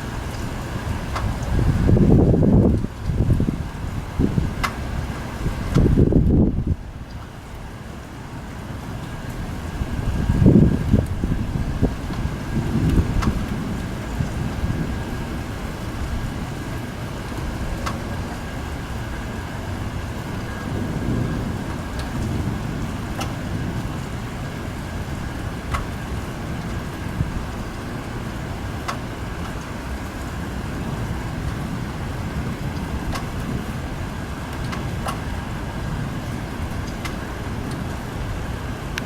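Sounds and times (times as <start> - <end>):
low rumbling thunder: 0.0 - 7.6, 8.4 - 39.0
rain: 0.0 - 39.0.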